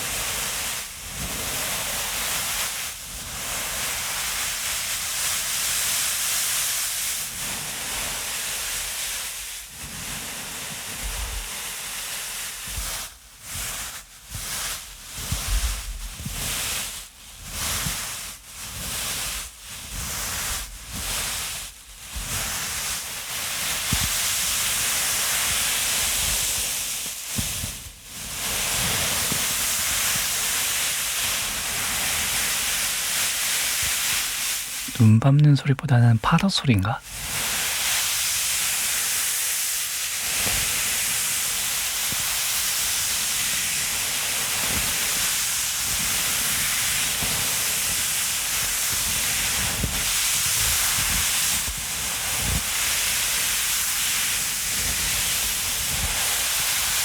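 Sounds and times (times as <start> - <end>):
rushing hissing close sound: 0.0 - 34.9, 37.0 - 57.0.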